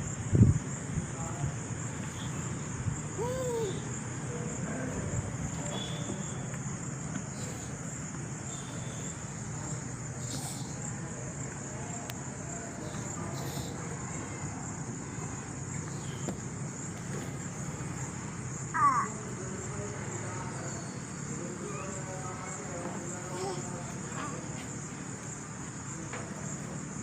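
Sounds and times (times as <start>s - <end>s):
insect drone: 0.0s - 27.0s.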